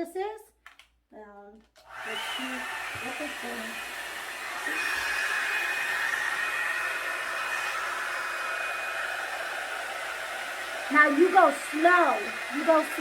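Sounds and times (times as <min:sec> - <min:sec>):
hot-air brush blowing with motor whine: 0:01.9 - 0:13.0.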